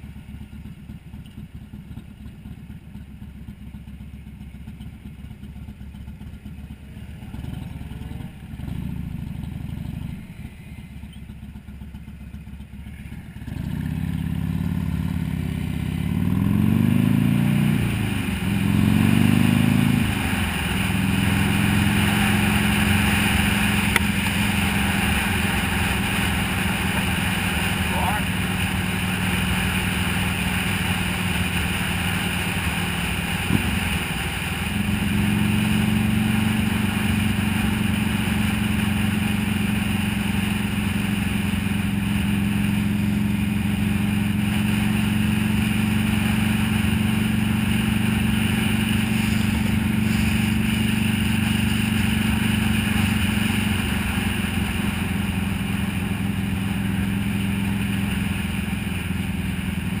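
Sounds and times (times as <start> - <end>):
motorcycle engine cruising: 0.0 - 60.0
wind and road noise: 0.0 - 60.0.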